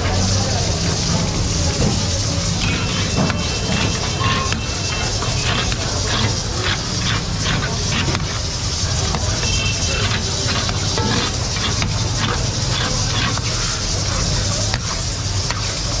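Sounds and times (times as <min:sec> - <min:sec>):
meat sizzling in a wok: 0:00.0 - 0:16.0
metal ladle scraping wok: 0:00.8 - 0:16.0.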